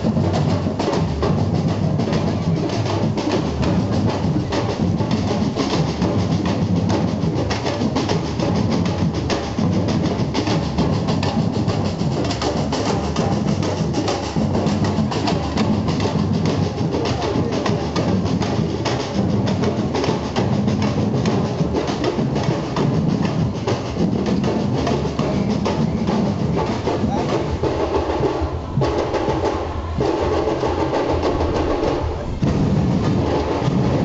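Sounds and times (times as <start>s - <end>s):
marching drums playing: 0.0s - 34.0s.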